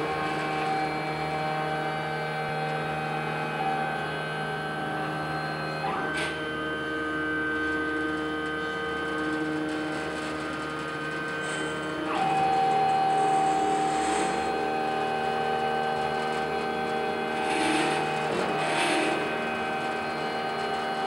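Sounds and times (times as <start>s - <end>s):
machine motors whining: 0.0s - 21.0s.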